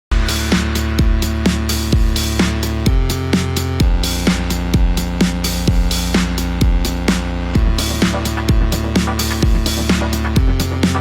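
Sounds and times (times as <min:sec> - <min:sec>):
low drum hits dropping in pitch: 0:00.1 - 0:09.8
electronic dance music: 0:00.1 - 0:11.0.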